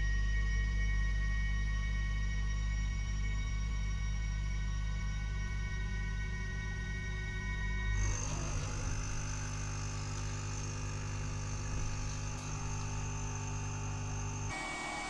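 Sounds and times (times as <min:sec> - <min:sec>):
machine hum with high whine: 0:00.0 - 0:15.0.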